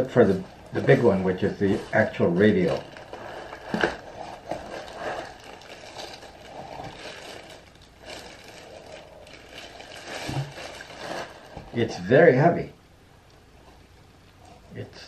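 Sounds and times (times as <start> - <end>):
plastic bag rustling: 0.0 - 12.2.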